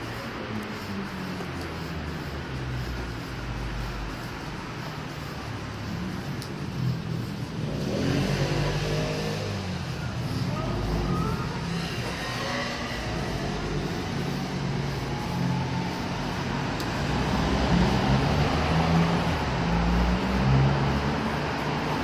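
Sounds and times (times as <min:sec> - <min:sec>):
car engines rumbling: 0:00.0 - 0:22.0
tyres hissing on wet road: 0:00.0 - 0:22.0.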